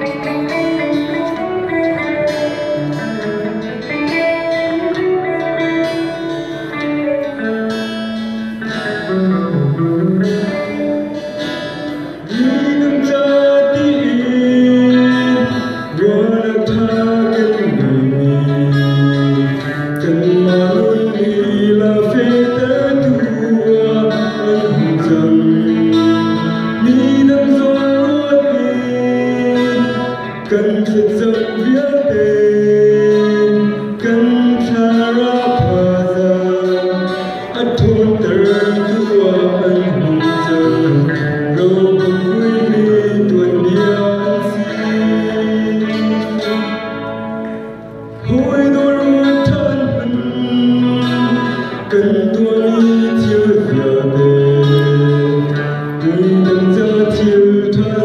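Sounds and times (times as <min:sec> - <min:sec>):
acoustic guitar: 0:00.0 - 0:58.0
man singing into microphone: 0:00.0 - 0:58.0.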